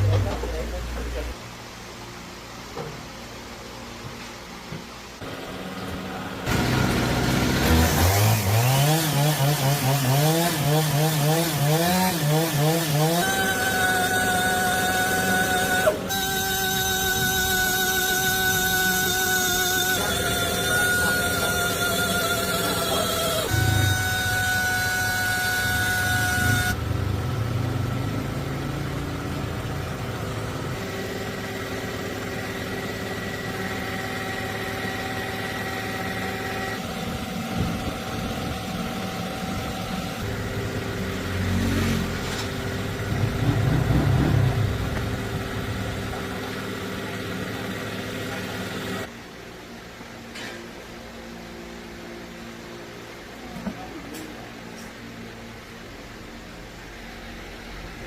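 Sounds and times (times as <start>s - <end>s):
engine running steadily: 0.0s - 2.1s, 4.6s - 58.0s.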